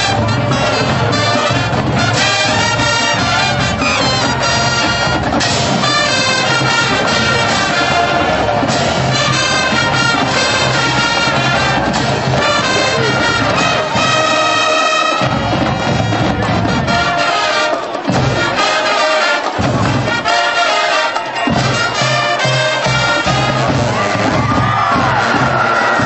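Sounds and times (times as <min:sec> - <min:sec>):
brass horns playing: 0:00.0 - 0:26.0
marching drums: 0:00.0 - 0:26.0.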